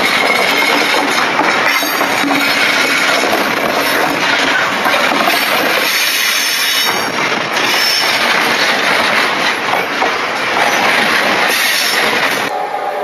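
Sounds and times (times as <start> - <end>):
train wagons rumbling on rails: 0.0 - 13.0.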